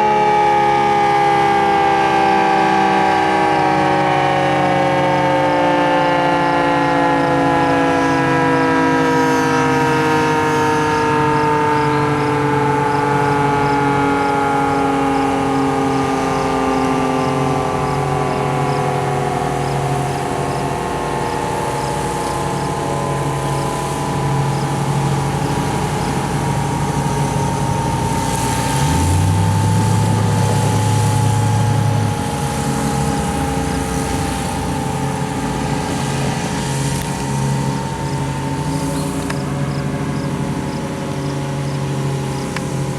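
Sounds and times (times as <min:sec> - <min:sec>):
two-tone siren winding down: 0:00.0 - 0:42.9.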